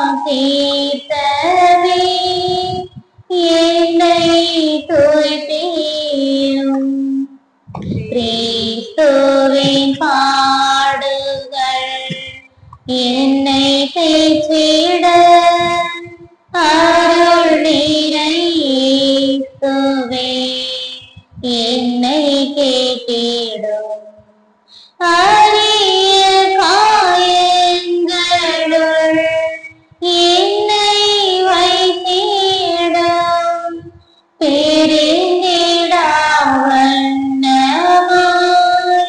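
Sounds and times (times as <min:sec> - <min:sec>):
high voice singing a hymn: 0:00.0 - 0:39.0.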